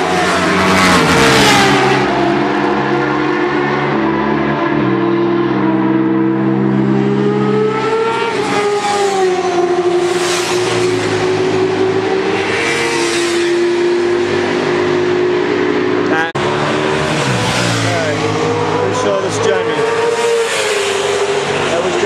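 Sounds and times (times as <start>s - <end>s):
motorcycles racing past: 0.0s - 22.0s.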